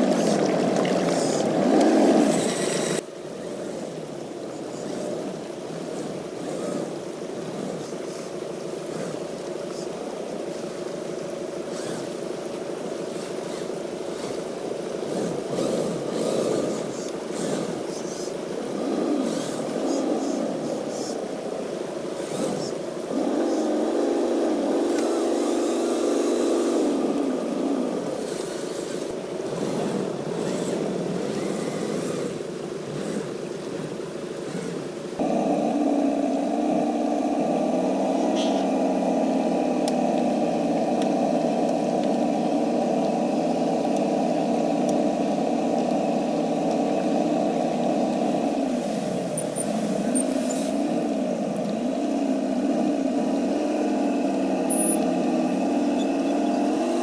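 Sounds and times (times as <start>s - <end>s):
toy truck motor whirring: 1.2s - 4.0s, 11.7s - 12.4s, 13.0s - 33.5s, 34.4s - 57.0s.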